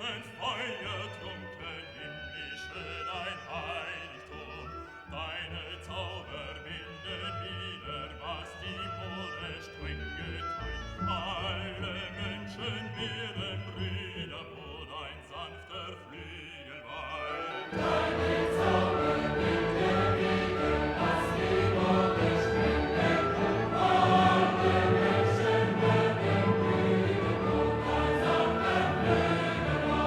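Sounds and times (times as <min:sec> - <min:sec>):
background music: 0:00.0 - 0:30.0.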